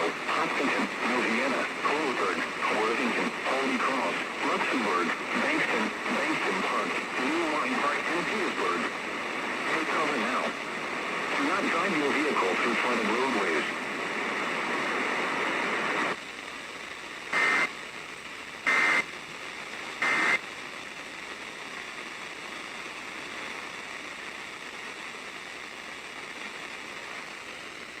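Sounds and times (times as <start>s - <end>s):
broadcast hiss: 0.0s - 28.0s.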